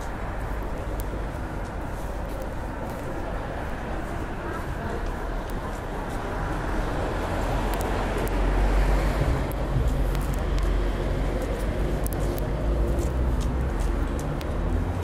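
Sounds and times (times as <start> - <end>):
car traffic passing: 0.0 - 15.0.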